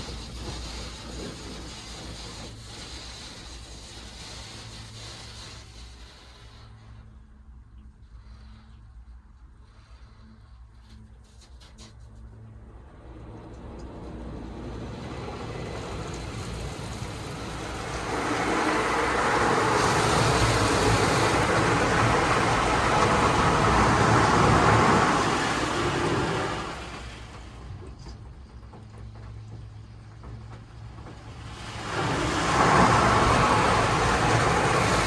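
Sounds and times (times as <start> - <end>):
car wash machine washing: 0.0 - 6.9, 11.4 - 28.0, 30.4 - 35.0.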